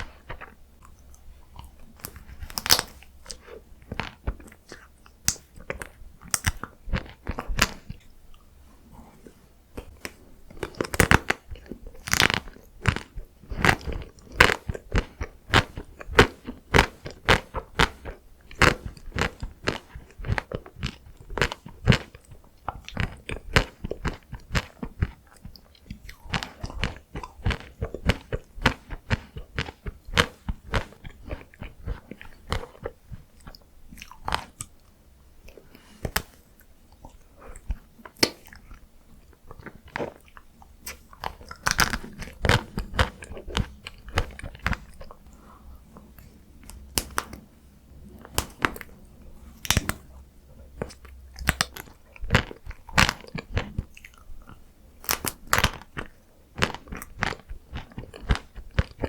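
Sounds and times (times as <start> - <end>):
crunching ice cream: 0.0 - 8.4, 9.8 - 47.4, 48.0 - 59.0
wet chewing clicks: 0.0 - 8.5, 9.8 - 59.0.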